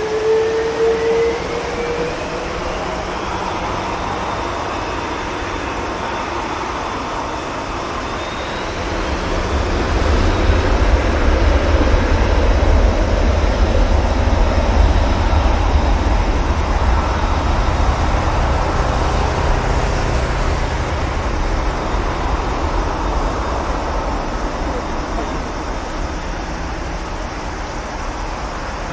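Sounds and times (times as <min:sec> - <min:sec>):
jet engines at takeoff thrust: 0:00.0 - 0:28.9.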